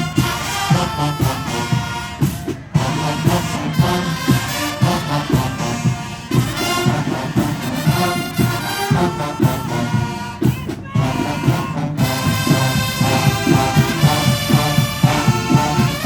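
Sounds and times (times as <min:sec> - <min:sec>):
marching band brass: 0:00.0 - 0:16.0.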